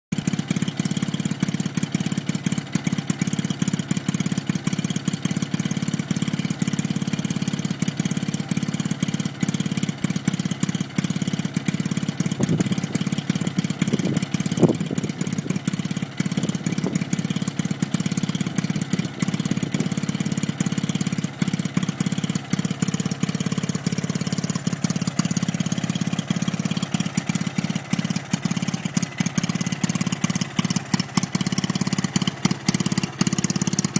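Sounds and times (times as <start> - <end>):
two-stroke engine running: 0.1 - 33.9.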